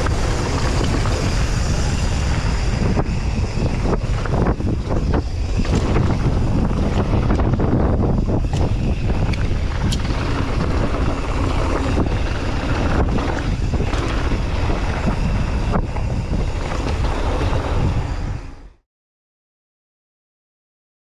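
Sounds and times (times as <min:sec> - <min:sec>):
wind buffeting microphone: 0:00.0 - 0:18.7.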